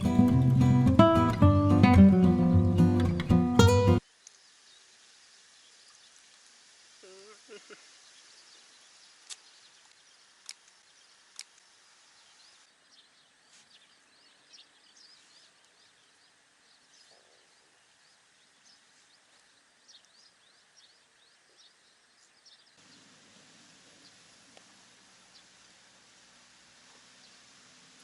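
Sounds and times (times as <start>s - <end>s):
small birds chirping: 3.7s - 28.0s.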